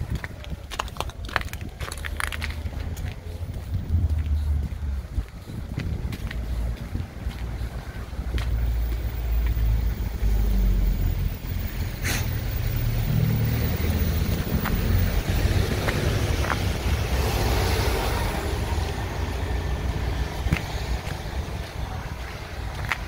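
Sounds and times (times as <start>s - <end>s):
traffic low rumble: 0.0s - 23.0s
vehicle passing by: 2.3s - 23.0s.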